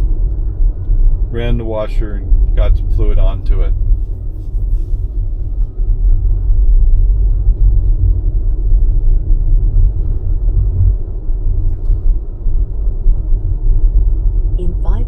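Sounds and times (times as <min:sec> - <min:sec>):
tyre and road noise in car cabin: 0:00.0 - 0:15.0.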